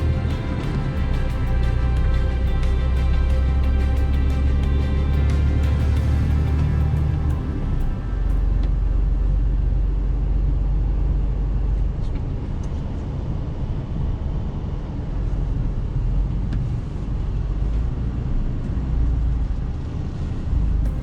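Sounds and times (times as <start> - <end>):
truck engine and road rumble: 0.0 - 21.0.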